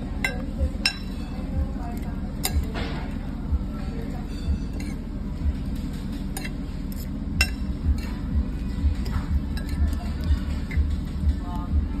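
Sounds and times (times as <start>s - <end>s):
background music with soft beat: 0.0s - 12.0s
utensils clinking on ceramic bowl: 0.2s - 3.2s, 4.0s - 11.0s.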